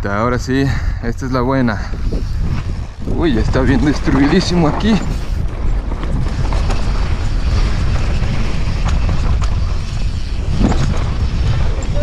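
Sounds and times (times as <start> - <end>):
wind and tyres on dirt rumble: 0.0 - 12.0
bike clicks and rattles: 1.7 - 12.0.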